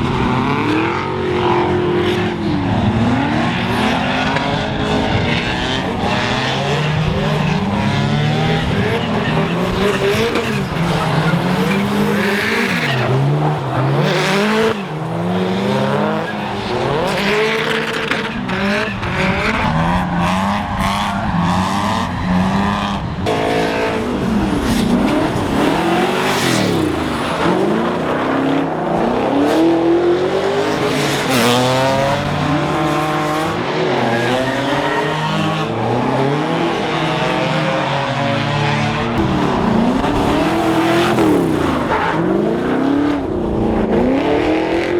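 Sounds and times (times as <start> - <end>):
car engines revving: 0.0 - 44.9
tyres squealing and skidding: 0.6 - 43.2.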